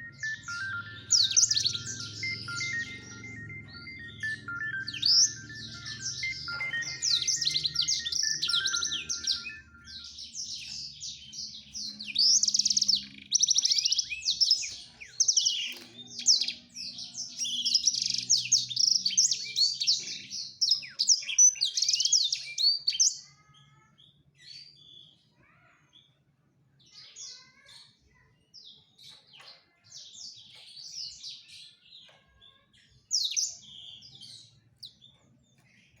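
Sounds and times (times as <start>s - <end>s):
canary singing: 0.0s - 25.2s, 30.1s - 36.0s.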